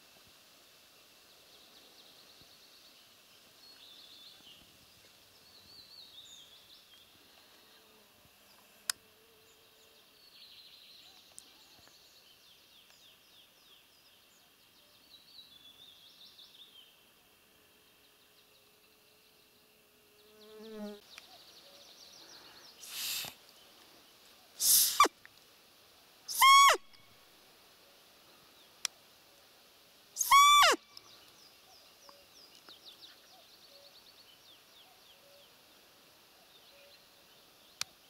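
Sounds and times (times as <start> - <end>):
faint songbird song: 0.0 - 38.0.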